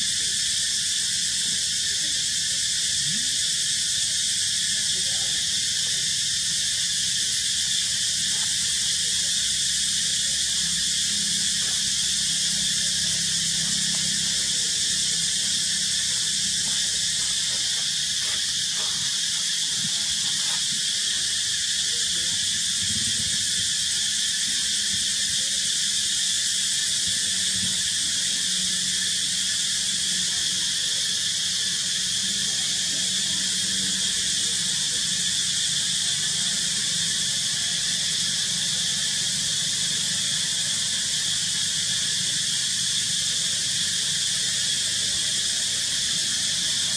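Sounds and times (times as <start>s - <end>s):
insects chorus hissing: 0.0s - 46.9s.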